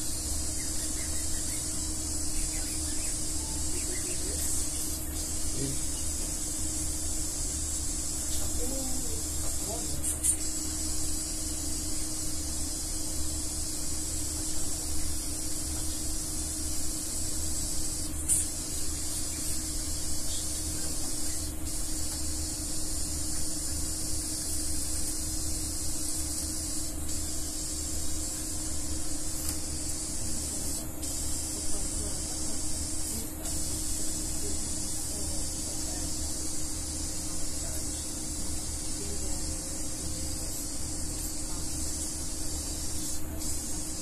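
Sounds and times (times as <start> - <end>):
steady high hiss: 0.0 - 44.0.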